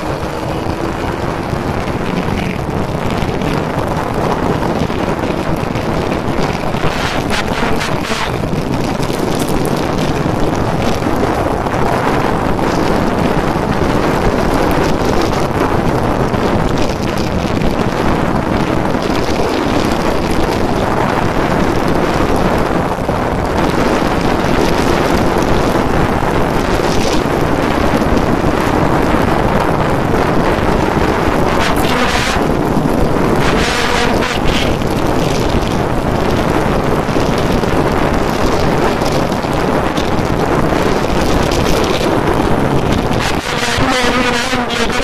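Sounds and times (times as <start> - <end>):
motorcycle engine revving high: 0.0 - 45.0
wind buffeting microphone: 0.0 - 45.0.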